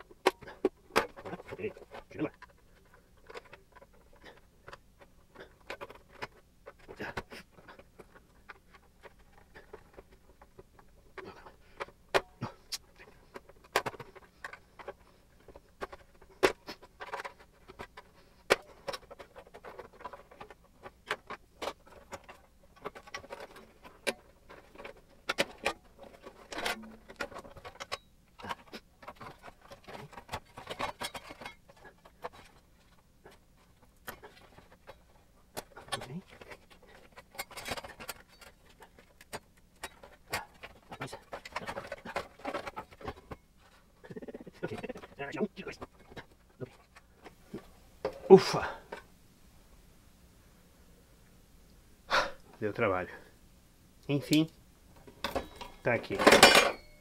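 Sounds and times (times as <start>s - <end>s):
plastic housing clicking and creaking: 0.1s - 49.1s.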